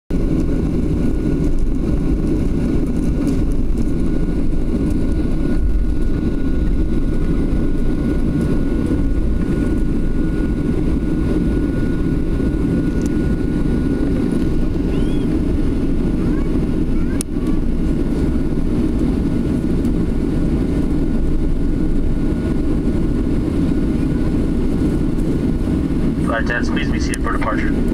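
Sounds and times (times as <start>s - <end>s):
jet engine low rumble: 0.1s - 27.9s
thin steady whine: 0.2s - 27.9s.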